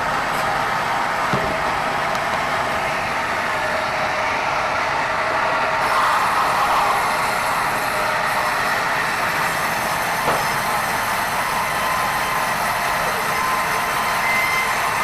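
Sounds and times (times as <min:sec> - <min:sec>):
sawmill machinery running: 0:00.0 - 0:15.0.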